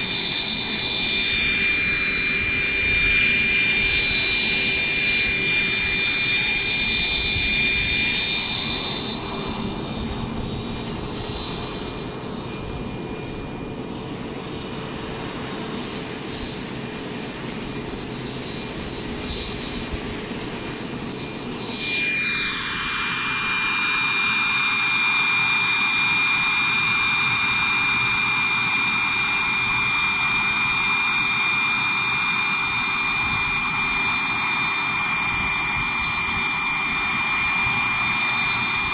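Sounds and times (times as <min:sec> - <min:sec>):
gas turbine whine: 0:00.0 - 0:38.9
helicopter rotor noise: 0:00.0 - 0:38.9.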